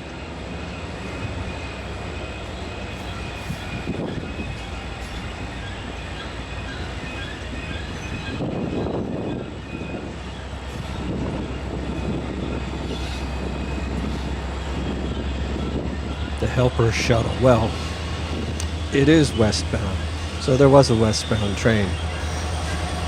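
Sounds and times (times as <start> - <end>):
diesel locomotive drone: 0.0 - 23.0
train wheels rumbling on rails: 0.0 - 23.0
wheel flange squeal: 0.6 - 23.0.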